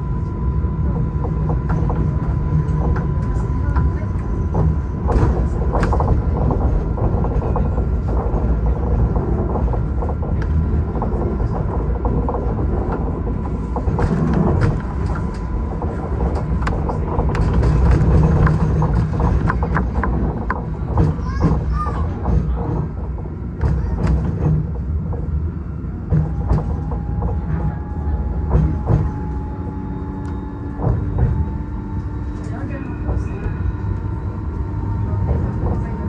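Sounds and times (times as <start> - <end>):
tram ride rumble: 0.0 - 36.0.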